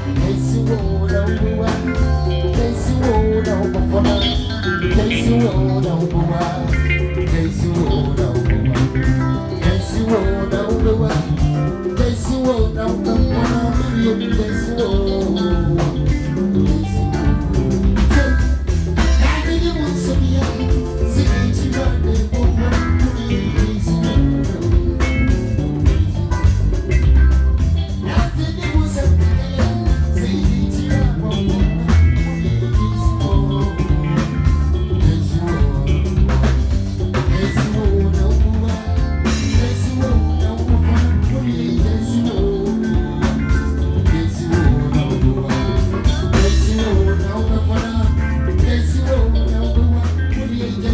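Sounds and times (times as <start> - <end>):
live band playing: 0.0 - 50.9
person singing: 0.0 - 50.9.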